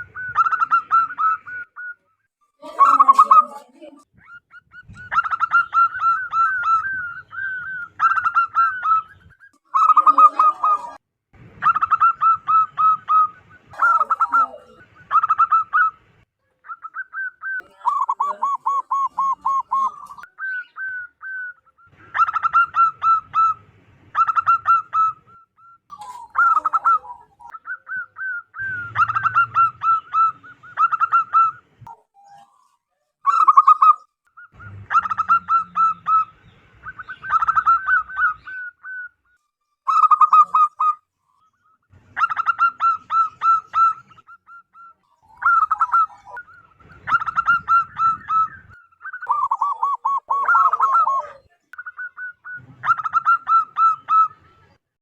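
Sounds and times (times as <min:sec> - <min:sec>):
doves cooing: 0:00.0 - 0:11.0, 0:11.6 - 0:54.8.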